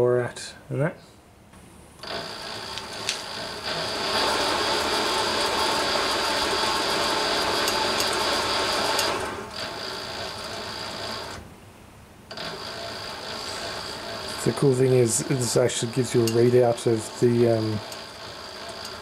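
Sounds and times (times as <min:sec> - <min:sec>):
lathe motor whine: 0:02.0 - 0:11.4, 0:12.3 - 0:19.0.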